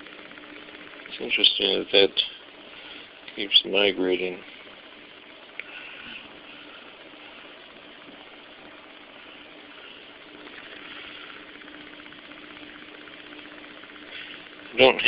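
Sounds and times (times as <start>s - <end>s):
fast fine rattle: 0.0s - 15.0s
small fan motor whirring: 0.0s - 15.0s.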